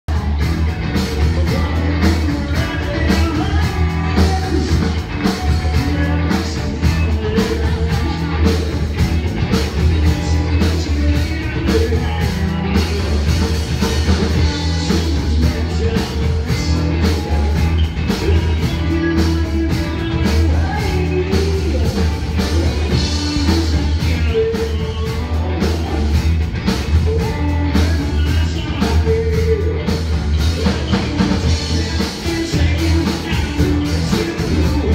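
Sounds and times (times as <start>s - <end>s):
loud rock music with singer: 0.1s - 34.9s.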